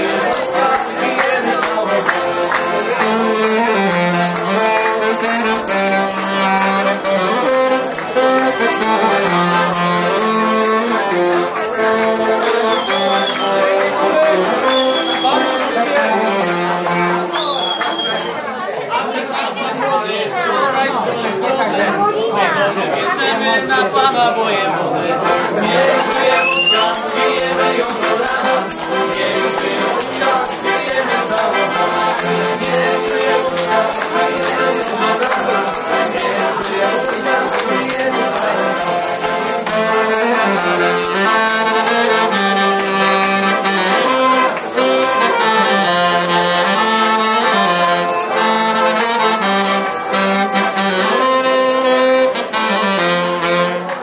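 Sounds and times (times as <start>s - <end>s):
tambourine shaken: 0.0s - 18.2s, 25.5s - 53.7s
saxophone: 0.0s - 18.4s, 25.2s - 54.0s
trumpet: 0.0s - 18.4s, 25.1s - 54.0s
accordion: 0.0s - 20.2s, 22.6s - 54.0s.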